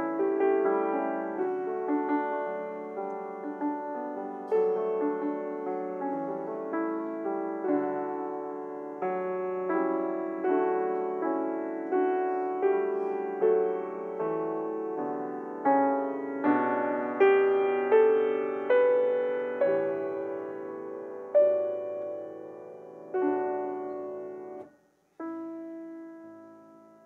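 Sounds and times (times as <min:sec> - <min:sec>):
piano playing slow chords: 0:00.0 - 0:27.0.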